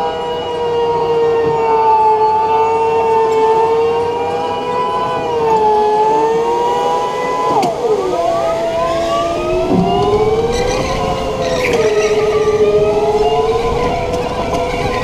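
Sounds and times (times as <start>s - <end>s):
electric go-kart motors whining: 0.0s - 15.0s.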